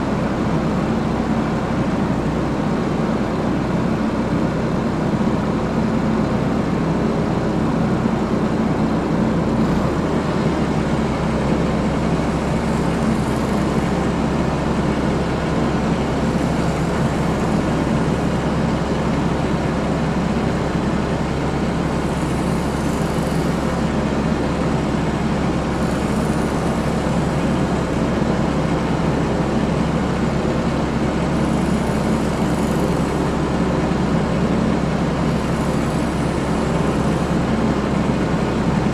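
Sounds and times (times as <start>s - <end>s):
portable generator engine drone: 0.0s - 38.9s.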